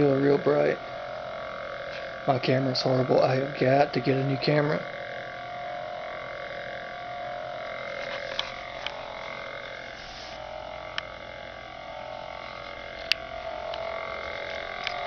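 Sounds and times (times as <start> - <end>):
electronic lightsaber hum: 0.0 - 15.0.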